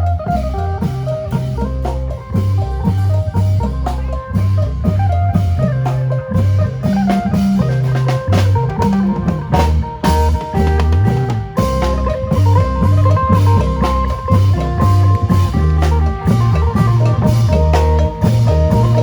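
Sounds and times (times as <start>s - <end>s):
bass notes: 0.0s - 19.0s
drum kit beat: 0.0s - 19.0s.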